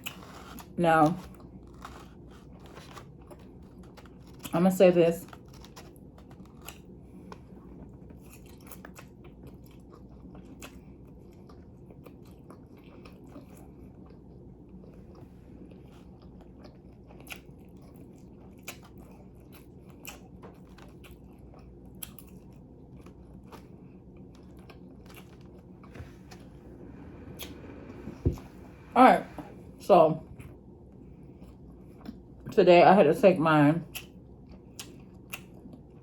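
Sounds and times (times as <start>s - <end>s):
chewing and biting food: 0.0s - 4.6s, 5.2s - 26.4s, 30.3s - 32.5s, 33.8s - 36.0s
low background hum: 0.0s - 36.0s.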